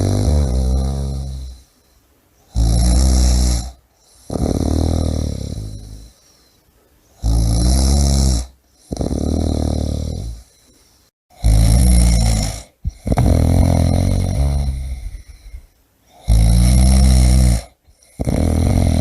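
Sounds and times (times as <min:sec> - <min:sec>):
person snoring: 0:00.0 - 0:01.8, 0:02.5 - 0:06.4, 0:07.2 - 0:10.7, 0:11.3 - 0:19.0.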